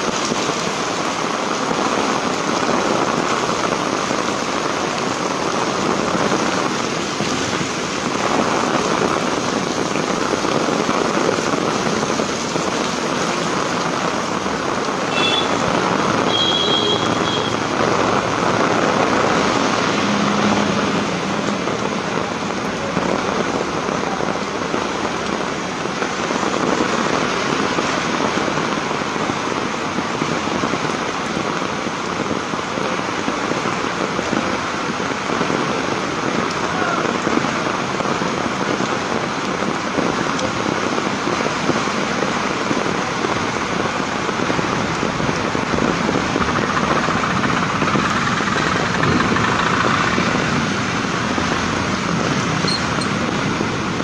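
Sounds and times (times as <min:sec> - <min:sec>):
car tyres swishing on wet road: 0:00.0 - 0:54.0
heavy rain pouring on street: 0:00.0 - 0:54.0.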